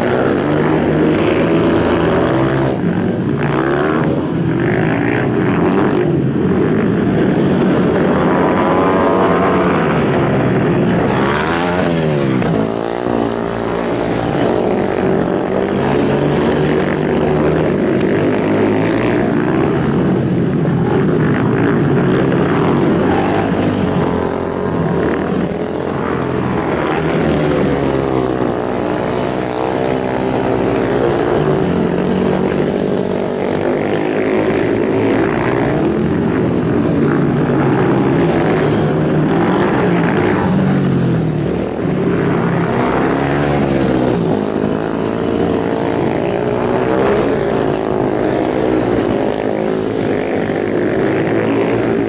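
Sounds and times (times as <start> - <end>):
racing motorcycle engines revving: 0.0 - 52.0.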